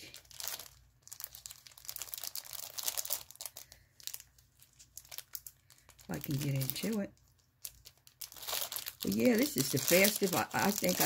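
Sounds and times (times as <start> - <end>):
cellophane packet crinkling: 0.0 - 11.0.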